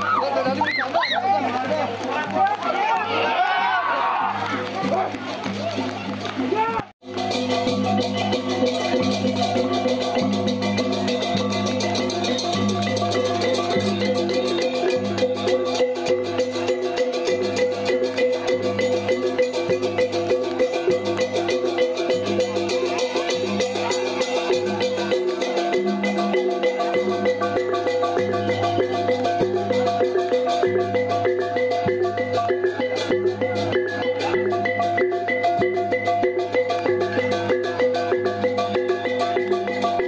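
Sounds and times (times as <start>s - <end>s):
metallophones ringing: 7.2s - 40.0s.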